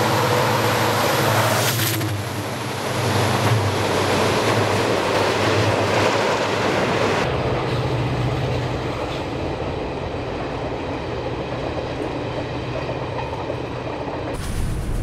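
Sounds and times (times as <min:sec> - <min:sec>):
train rushing: 0:00.0 - 0:15.0.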